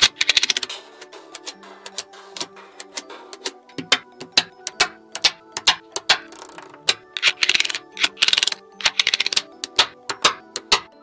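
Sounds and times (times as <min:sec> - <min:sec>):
magnetic steel balls clicking: 0:00.0 - 0:11.0.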